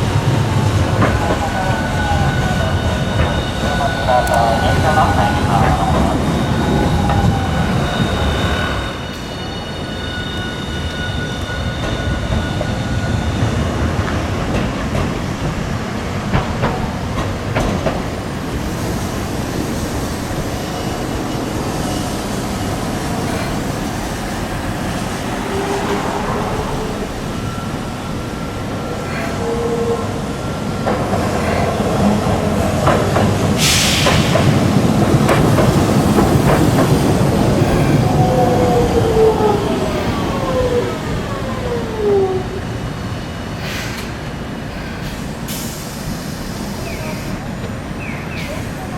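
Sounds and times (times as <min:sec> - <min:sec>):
streetcar rumbling on track: 0:00.0 - 0:48.9.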